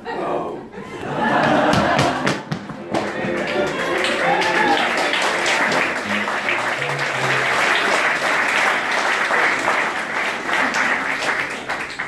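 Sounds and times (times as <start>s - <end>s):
audience clapping: 1.3s - 12.0s.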